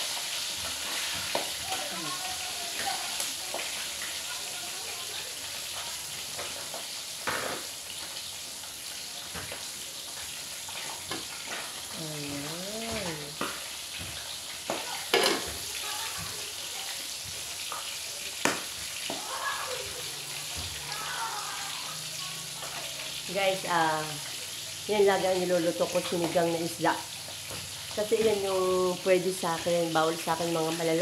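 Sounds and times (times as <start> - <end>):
food sizzling and bubbling: 0.0 - 31.0.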